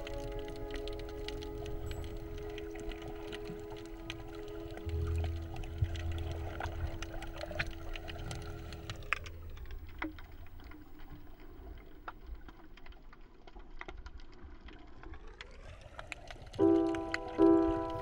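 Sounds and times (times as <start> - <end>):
low underwater rumble: 0.0 - 15.4, 16.6 - 18.0
underwater clicks and ticks: 0.0 - 18.0.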